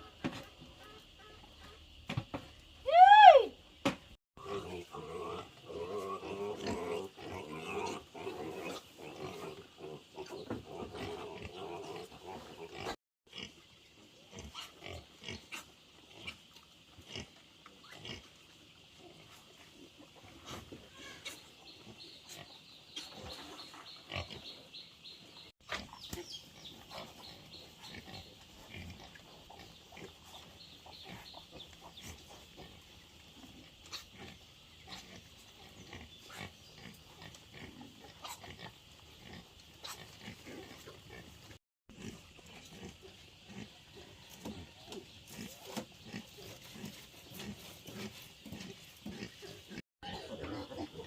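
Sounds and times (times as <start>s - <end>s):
pigs grunting: 4.4s - 13.6s, 14.2s - 18.3s, 19.0s - 24.8s, 25.4s - 51.0s.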